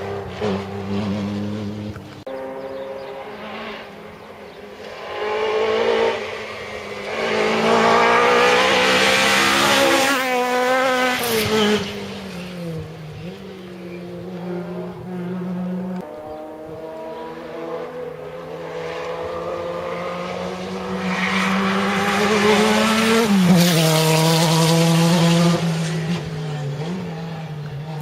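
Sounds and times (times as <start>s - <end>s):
rally car engine at full throttle: 0.0s - 28.0s.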